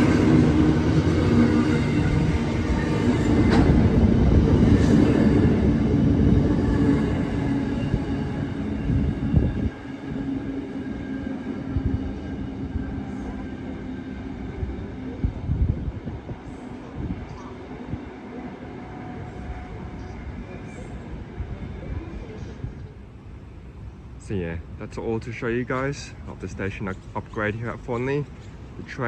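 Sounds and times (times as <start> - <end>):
train rumbling through station: 0.0 - 29.0.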